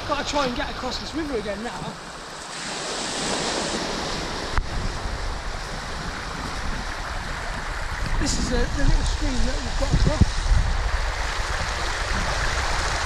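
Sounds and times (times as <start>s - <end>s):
waves washing over pebbles: 0.0s - 13.0s
wind rumble on microphone: 0.0s - 13.0s.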